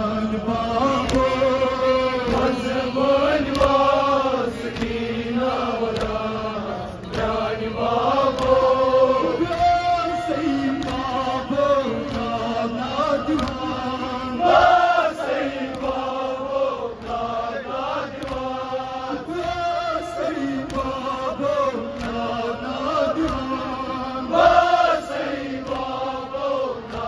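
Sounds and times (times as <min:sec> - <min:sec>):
men chanting lament through loudspeaker: 0:00.0 - 0:27.0
rhythmic chest slaps: 0:00.0 - 0:27.0.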